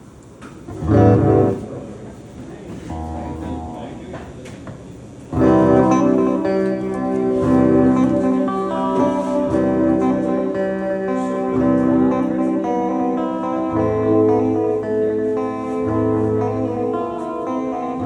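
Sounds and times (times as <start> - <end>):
acoustic guitar chords: 0.7 - 1.9, 2.9 - 4.4, 5.3 - 18.0.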